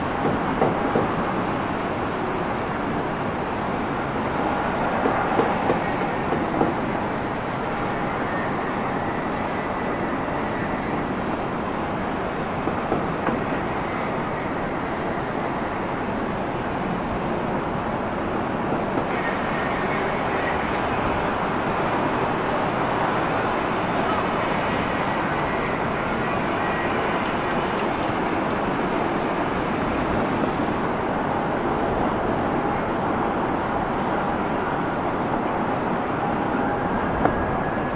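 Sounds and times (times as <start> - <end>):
jet engines rushing with whine: 0.0 - 37.9.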